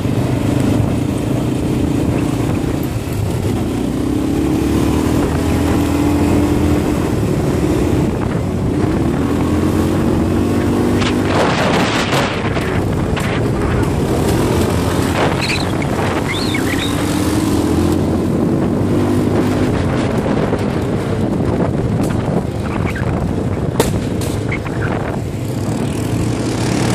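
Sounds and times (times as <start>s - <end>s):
engine revving: 0.0s - 26.9s
wind buffeting microphone: 0.0s - 26.9s.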